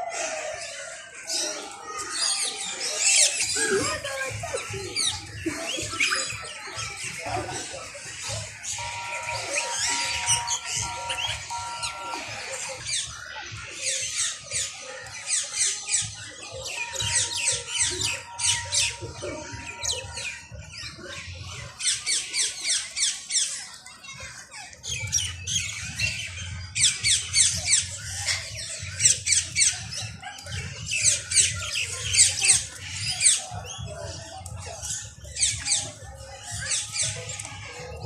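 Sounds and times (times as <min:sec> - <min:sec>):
small birds chirping and squawking: 0:00.0 - 0:38.0.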